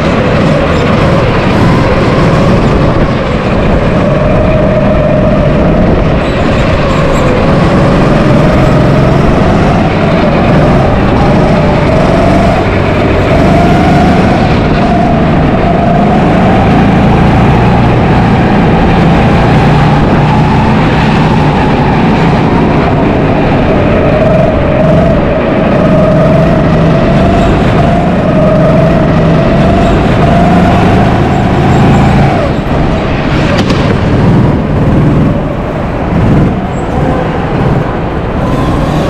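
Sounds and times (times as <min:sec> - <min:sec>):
go-kart motor: 0:00.0 - 0:39.0
road and rushing noise: 0:00.0 - 0:39.0.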